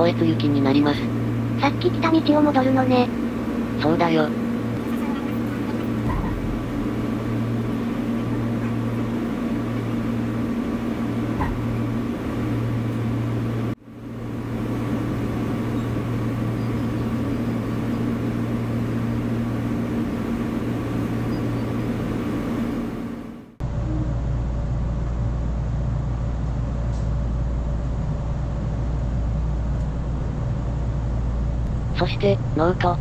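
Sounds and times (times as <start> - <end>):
electric train cabin drone: 0.0 - 33.0.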